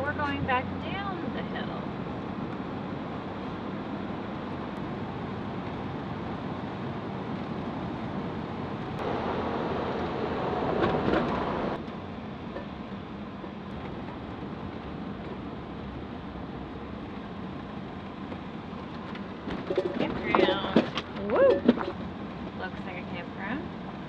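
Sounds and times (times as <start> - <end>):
rush of wind: 0.0 - 22.7
road and engine noise in vehicle: 0.0 - 24.0.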